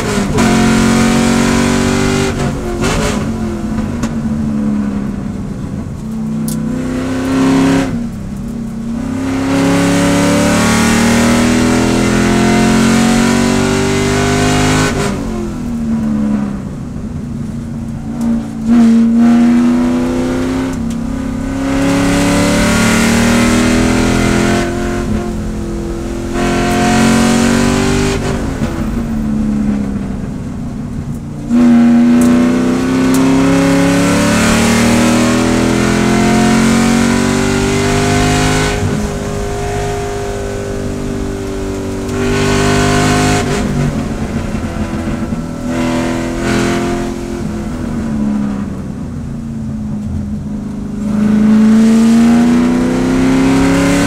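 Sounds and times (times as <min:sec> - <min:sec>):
race car engine accelerating: 0:00.0 - 0:49.2, 0:49.9 - 0:54.0.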